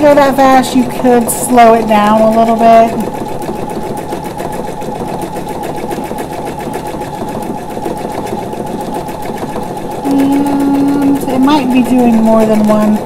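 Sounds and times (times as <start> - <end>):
sewing machine running fast: 0.0 - 13.0.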